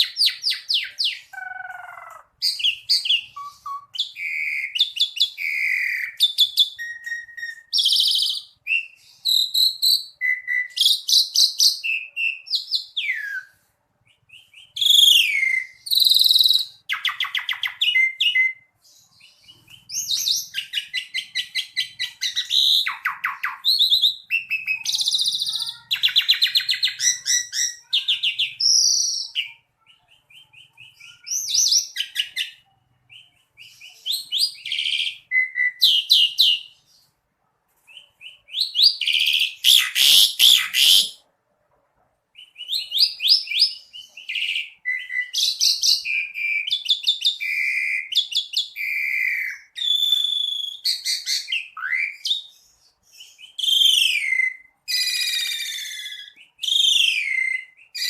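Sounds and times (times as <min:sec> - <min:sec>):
starling singing whistles and trills: 0:00.0 - 0:37.1, 0:37.9 - 0:41.2, 0:42.4 - 0:58.0.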